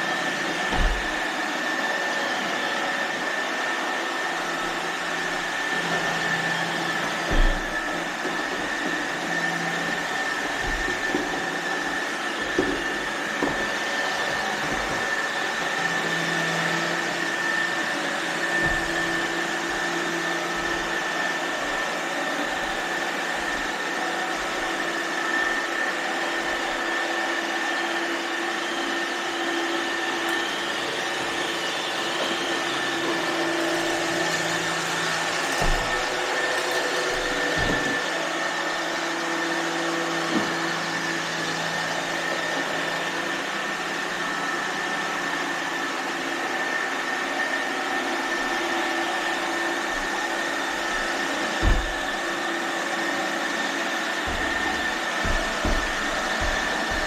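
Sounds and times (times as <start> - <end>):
robot vacuum motor whirring: 0.1 - 41.2, 47.6 - 57.0.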